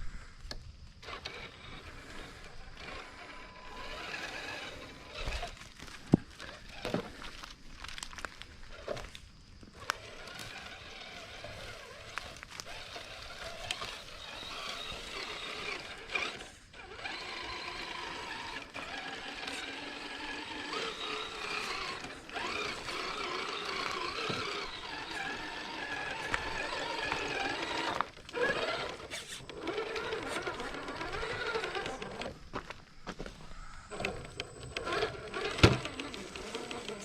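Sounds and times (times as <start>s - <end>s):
toy car motor and gearbox whining: 0.5s - 37.0s.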